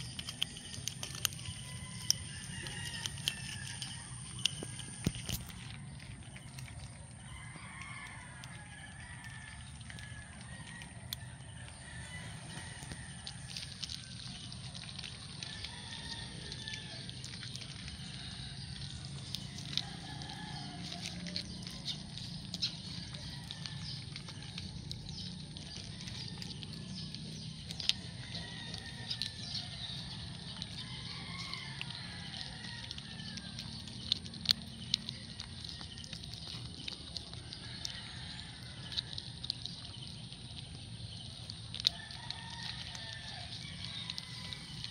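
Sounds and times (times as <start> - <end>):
birds calling faintly: 0.0 - 44.9
kittens crunching kibble: 0.0 - 44.9
outdoor ambience: 0.0 - 44.9.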